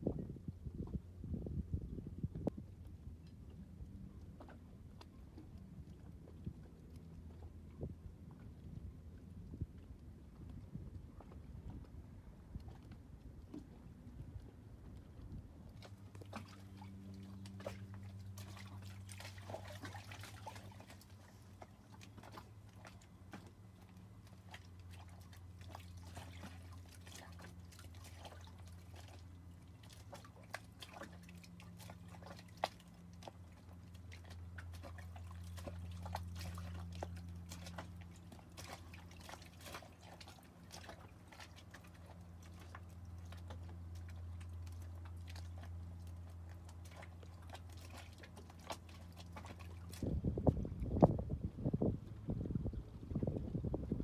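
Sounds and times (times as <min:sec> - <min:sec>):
water lapping against hull: 0:00.0 - 0:54.0
boat engine droning: 0:02.6 - 0:50.2.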